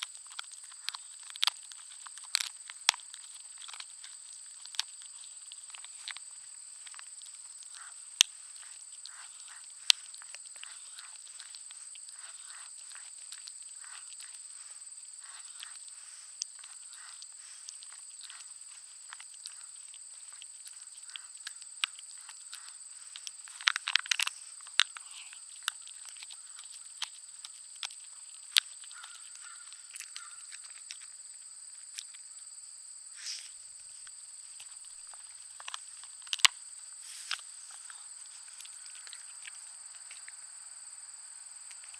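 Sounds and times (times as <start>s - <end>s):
dog crunching on a bone: 0.0s - 31.2s, 34.0s - 40.5s, 41.6s - 41.9s
insects trilling: 0.0s - 41.9s.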